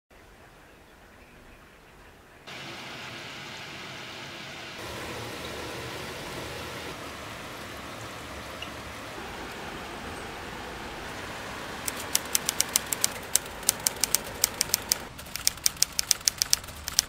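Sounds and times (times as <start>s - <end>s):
steady rain falling: 2.5s - 17.0s.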